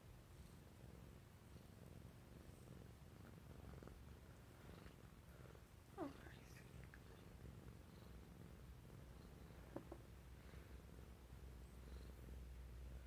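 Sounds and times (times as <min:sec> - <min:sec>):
cat purring faintly: 0:00.0 - 0:13.0.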